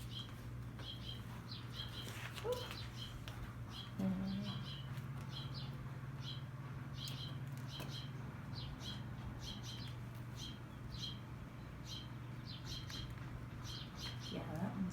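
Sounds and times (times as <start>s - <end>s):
small bird chirping: 0.0s - 14.8s
steady low hum: 0.0s - 14.9s.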